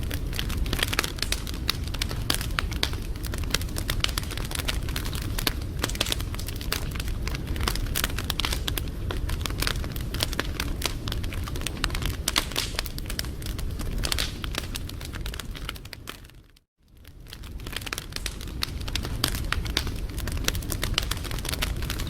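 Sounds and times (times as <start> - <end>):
low rumble of burning: 0.0 - 22.0
wood fire crackling: 0.0 - 22.0.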